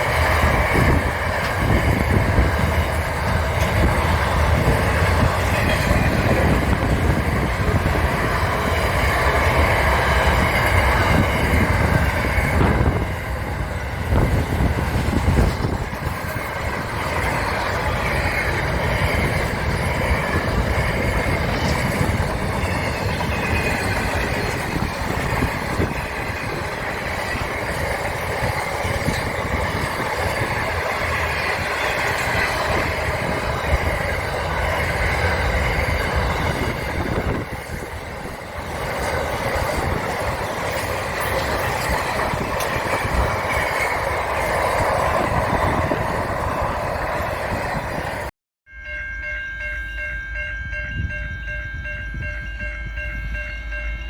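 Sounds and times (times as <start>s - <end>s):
train wheels on track: 0.0s - 54.0s.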